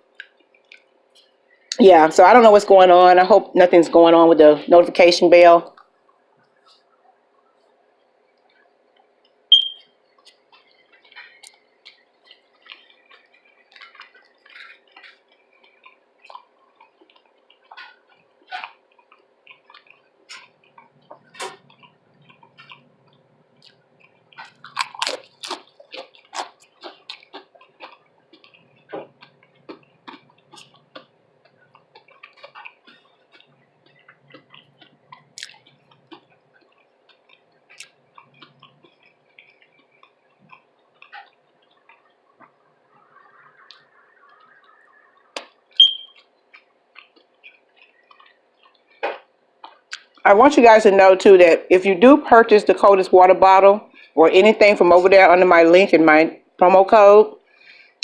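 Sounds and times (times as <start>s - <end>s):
person chewing food: 0.0s - 1.8s, 5.7s - 50.3s.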